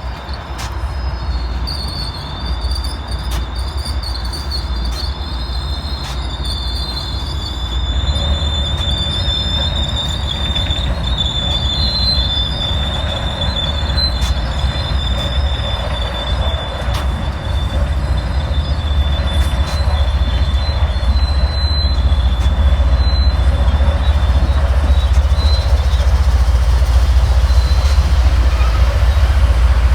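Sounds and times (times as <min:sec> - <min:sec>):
low rumble of moving train: 0:00.0 - 0:29.9
train wheels squealing: 0:00.0 - 0:29.9.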